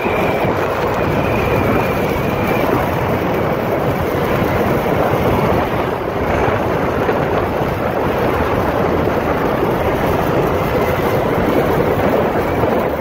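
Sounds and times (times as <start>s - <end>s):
road noise: 0.0s - 13.0s
scooter engine running: 0.0s - 13.0s
wind buffeting microphone: 0.0s - 13.0s.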